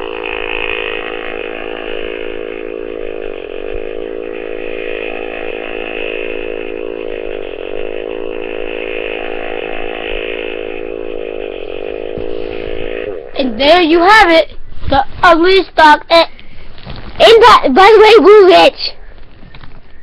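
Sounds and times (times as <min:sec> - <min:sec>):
long buzzing fart noise: 0:00.0 - 0:18.7.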